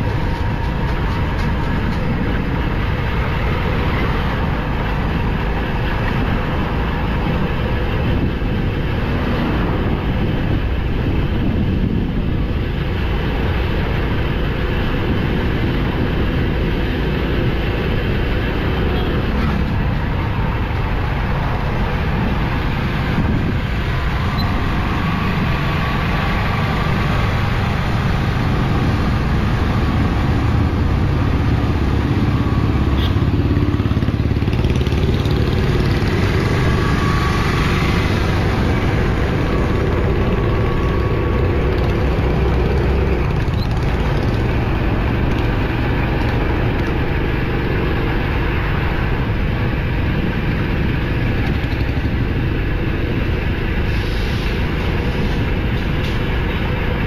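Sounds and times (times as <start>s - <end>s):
car engine and tyre noise: 0.0s - 57.0s
traffic noise: 0.0s - 57.0s.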